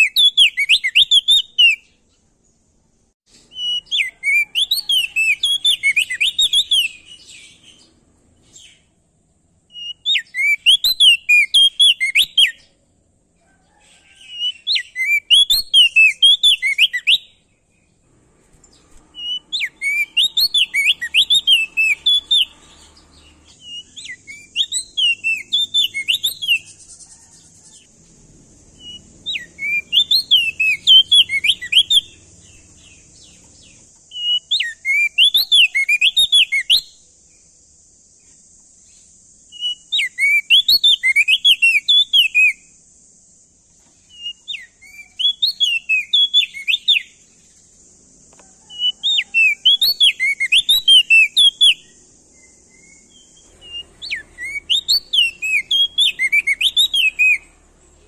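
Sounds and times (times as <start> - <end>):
songbird singing chirping phrases: 0.0 - 58.0.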